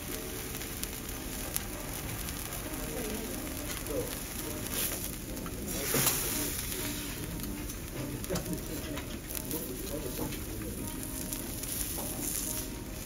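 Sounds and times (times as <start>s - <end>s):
vegetables sizzling on griddle: 0.0s - 13.0s.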